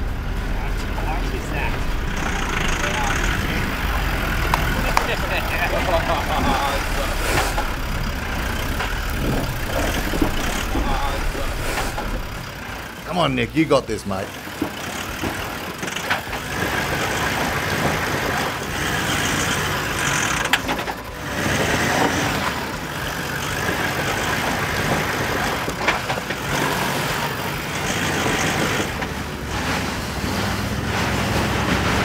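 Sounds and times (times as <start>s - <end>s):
vehicle engine straining under load: 0.0s - 32.0s.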